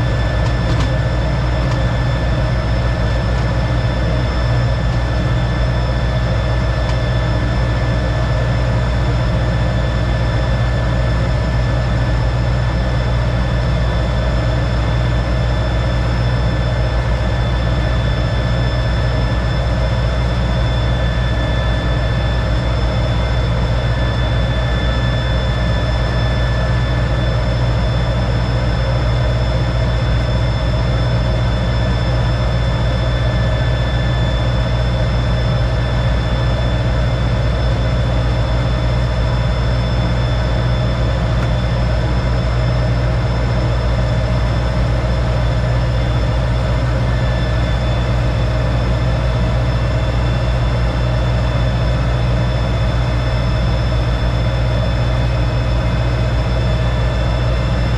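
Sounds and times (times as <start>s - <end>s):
jet engine droning and whining: 0.0s - 57.9s.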